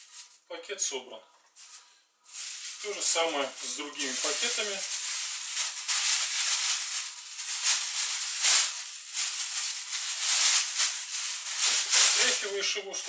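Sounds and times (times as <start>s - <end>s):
plastic bag crinkling: 0.0s - 0.4s, 1.6s - 13.0s.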